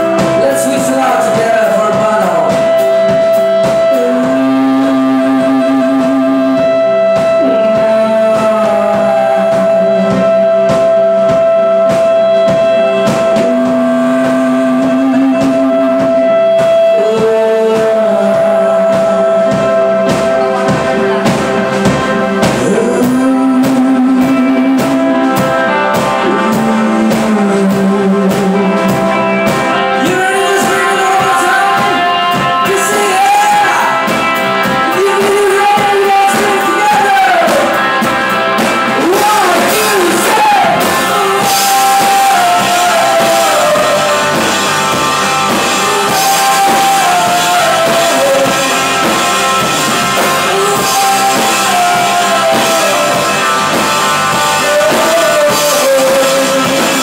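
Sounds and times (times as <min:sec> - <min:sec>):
drum kit: 0:00.0 - 0:57.0
electric guitars: 0:00.0 - 0:57.0
person singing lead vocal: 0:00.0 - 0:57.0.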